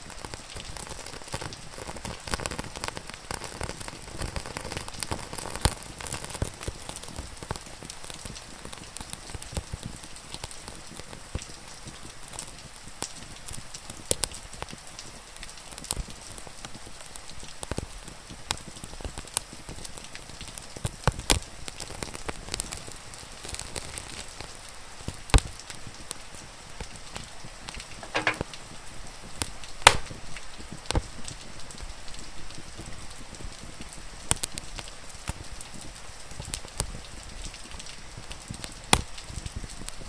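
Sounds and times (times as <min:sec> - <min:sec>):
rain hissing: 0:00.0 - 0:40.0
wood fire crackling: 0:00.0 - 0:40.0.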